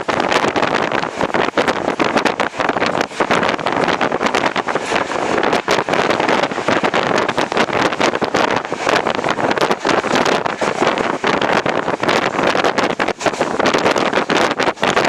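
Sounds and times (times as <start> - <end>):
passenger train running: 0.0 - 15.0
wind buffeting microphone: 0.0 - 15.0.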